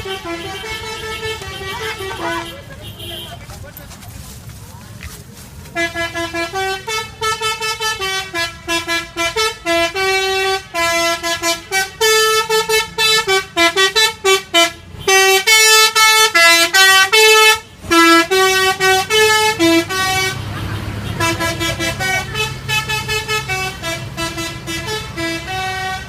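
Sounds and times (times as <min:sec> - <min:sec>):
tuned bus horn melody: 0:00.0 - 0:03.4, 0:05.7 - 0:26.0.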